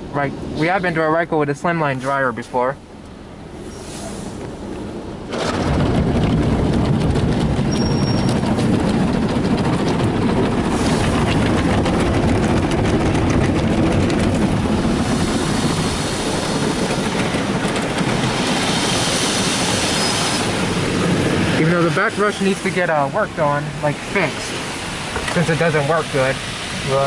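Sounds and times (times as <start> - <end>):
car wash equipment and water rushing: 0.0 - 27.0.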